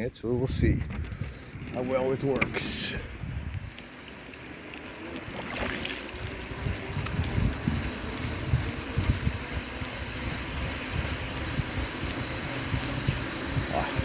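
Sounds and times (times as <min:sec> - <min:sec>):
wind buffeting microphone: 0:00.0 - 0:04.0, 0:05.1 - 0:14.0
bicycle tyres hissing on wet road: 0:02.6 - 0:14.0.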